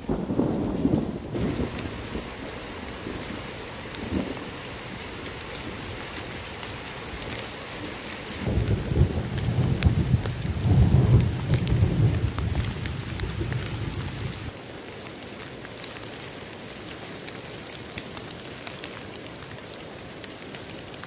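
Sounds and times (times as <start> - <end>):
raindrops ticking on leaves: 0.0 - 21.0
steady rain: 0.0 - 21.0.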